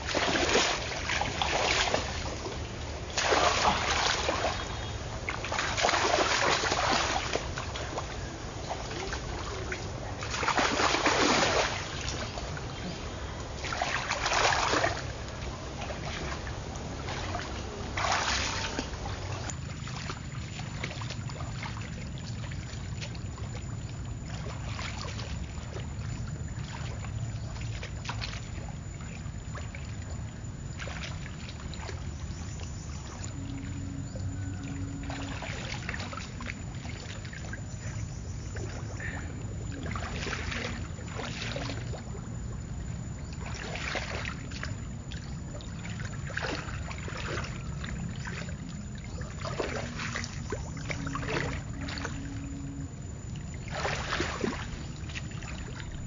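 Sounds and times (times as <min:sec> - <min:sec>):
steady rush of water: 0:00.0 - 0:38.0, 0:38.6 - 0:56.0
water splashing: 0:00.0 - 0:56.0.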